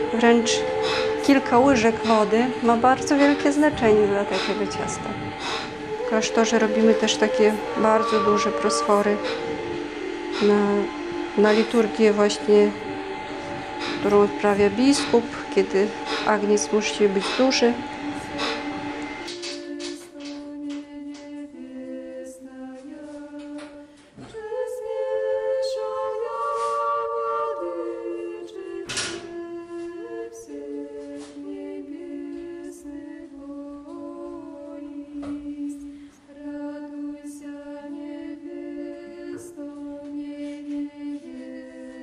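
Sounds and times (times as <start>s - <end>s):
a cappella choir singing: 0.0s - 42.0s.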